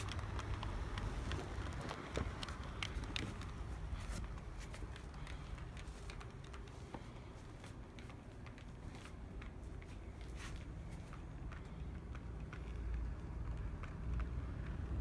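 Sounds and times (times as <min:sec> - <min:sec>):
wheels clicking over rail joints: 0:00.0 - 0:15.0.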